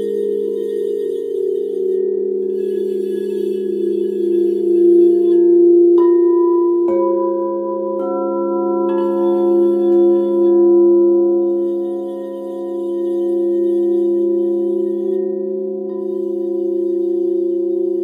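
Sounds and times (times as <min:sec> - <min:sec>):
crystal singing bowls ringing: 0:00.0 - 0:18.0
singing bowls being struck: 0:00.0 - 0:18.0.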